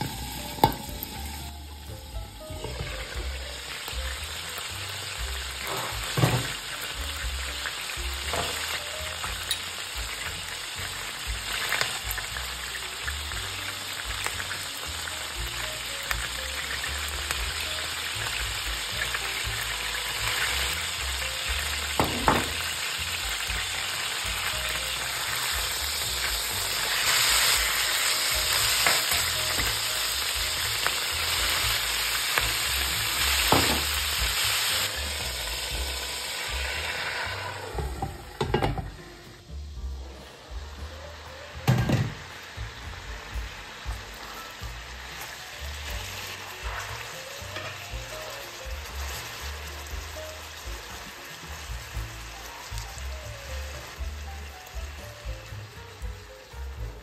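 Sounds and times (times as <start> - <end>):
meat sizzling in a pan: 0.0 - 57.0.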